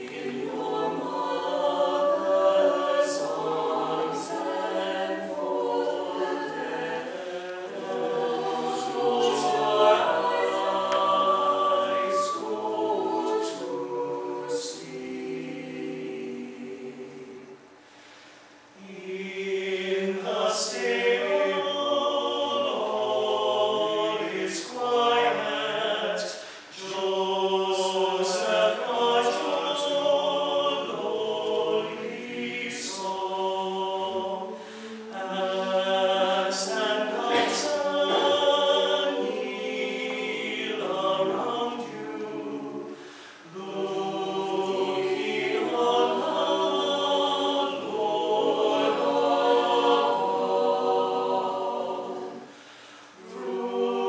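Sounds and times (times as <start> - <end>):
choir singing a cappella: 0.0 - 18.0, 18.6 - 54.0.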